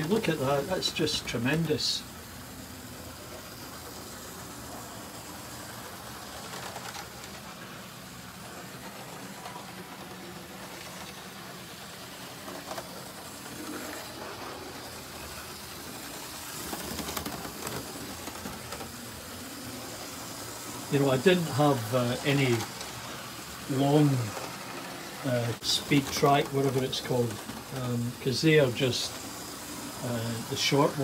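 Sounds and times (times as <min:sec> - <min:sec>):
model train motor humming: 0:00.0 - 0:31.0.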